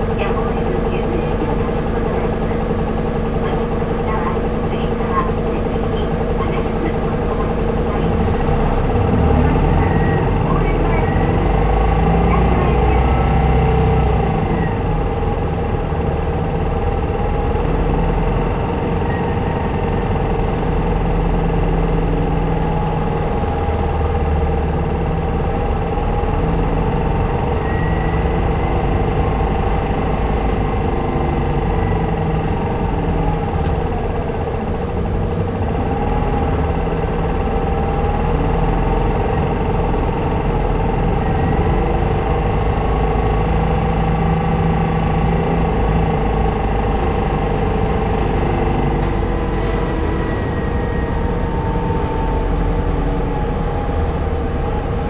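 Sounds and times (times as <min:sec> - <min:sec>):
bus engine humming and whining: 0:00.0 - 0:55.0.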